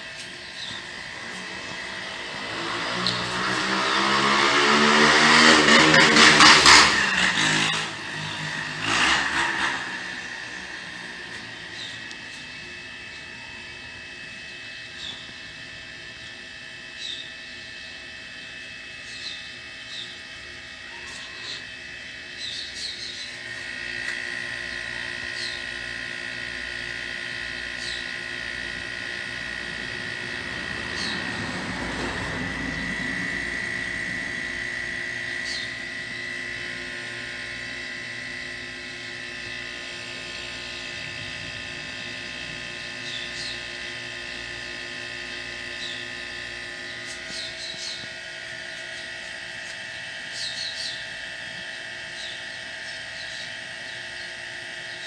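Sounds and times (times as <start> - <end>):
compressor motors humming: 0.0 - 55.0.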